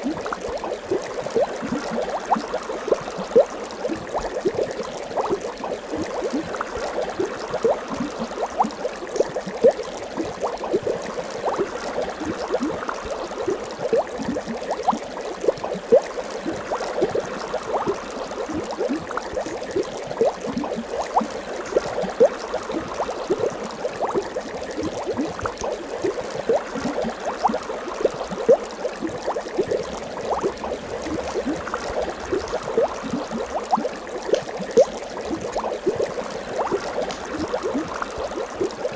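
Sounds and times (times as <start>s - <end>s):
underwater bubbling: 0.0s - 38.9s.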